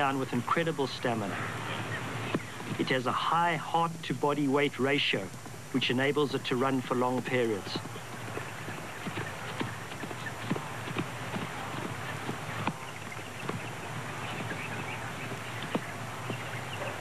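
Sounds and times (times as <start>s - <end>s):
galloping hoofbeats: 0.0s - 3.2s, 5.3s - 17.0s
steady hiss: 0.0s - 17.0s.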